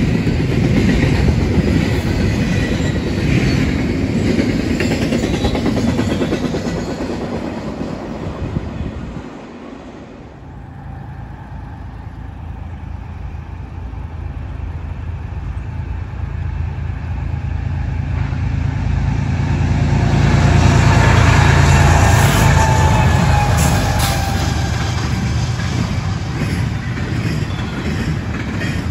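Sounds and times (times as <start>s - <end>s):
diesel locomotives rumbling: 0.0s - 28.9s
rail cars clickety-clack: 0.0s - 28.9s.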